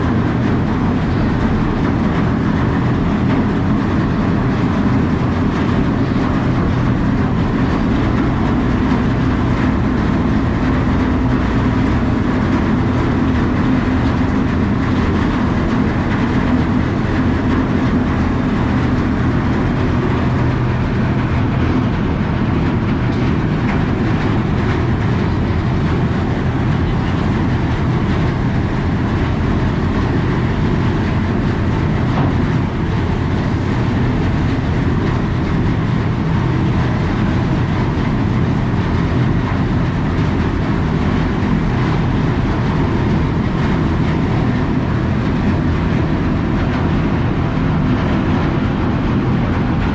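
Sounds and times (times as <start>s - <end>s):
ferry engines droning: 0.0s - 49.9s
rushing noise: 0.0s - 49.9s.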